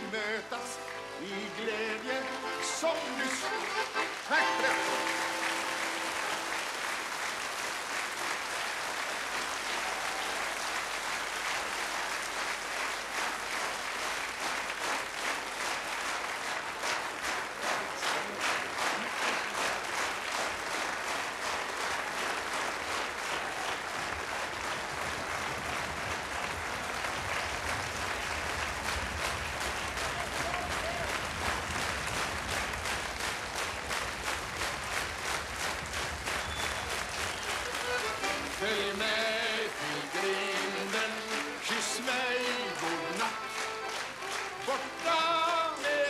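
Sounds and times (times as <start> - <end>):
audience applauding: 0.0 - 46.0.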